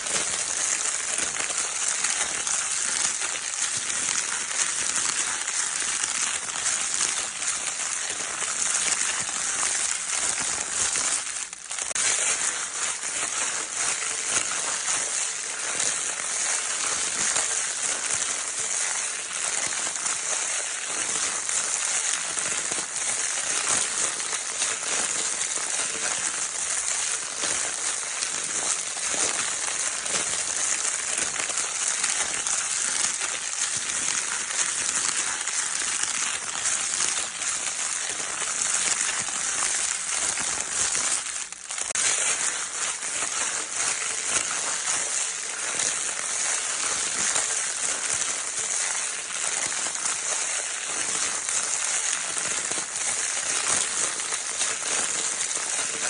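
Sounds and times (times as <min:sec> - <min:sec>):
crinkle paper toy crackling: 0:00.0 - 0:56.0.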